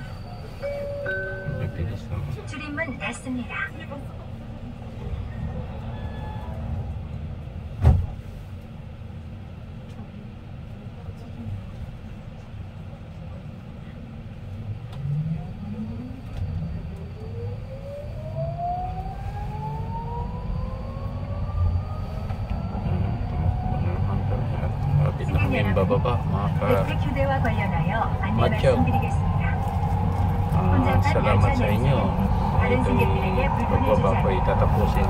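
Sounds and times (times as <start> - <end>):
low rumble of train car: 0.0 - 35.0.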